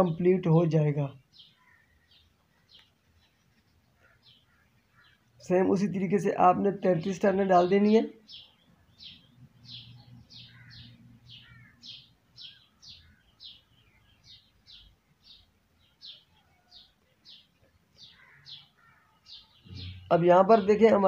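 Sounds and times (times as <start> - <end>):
small bird chirping: 0.0 - 5.9, 6.9 - 21.0.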